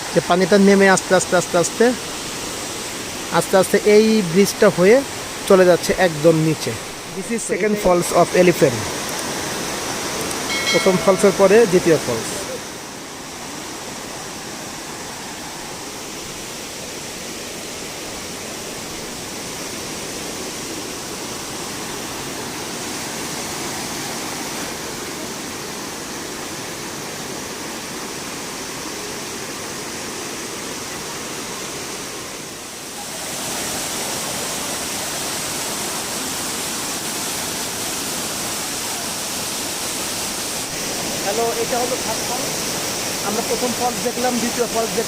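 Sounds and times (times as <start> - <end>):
waterfall rushing over rocks: 0.0 - 45.0.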